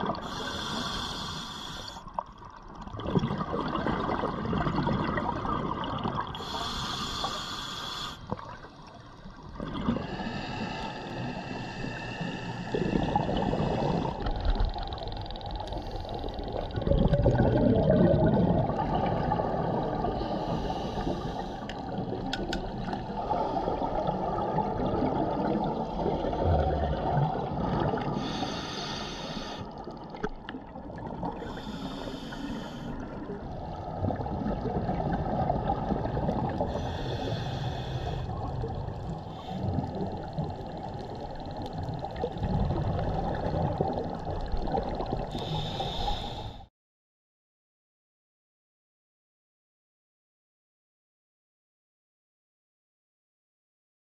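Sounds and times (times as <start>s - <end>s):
underwater bubbles gurgling: 0.0s - 46.6s.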